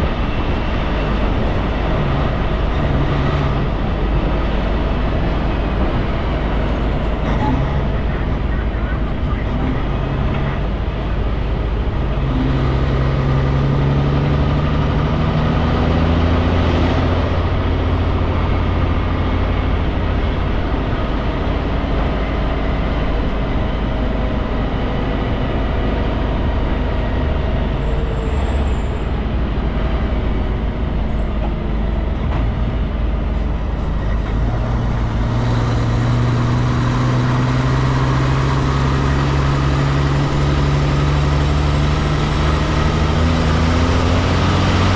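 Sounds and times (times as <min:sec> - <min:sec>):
truck diesel engine droning: 0:00.0 - 0:44.9.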